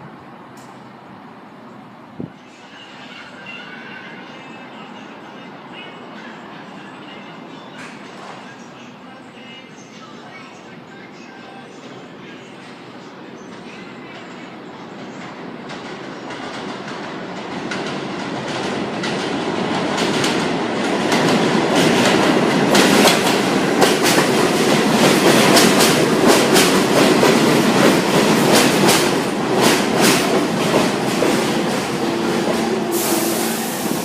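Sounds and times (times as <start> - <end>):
subway train: 0.0 - 34.0.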